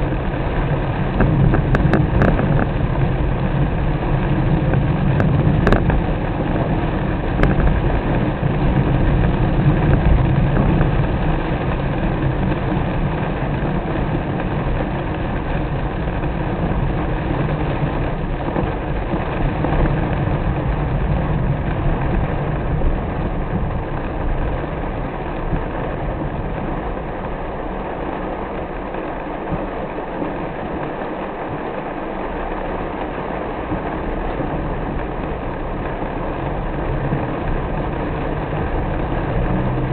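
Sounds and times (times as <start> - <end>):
low car rumble: 0.0 - 39.9
rain and tyre hiss: 0.0 - 39.9.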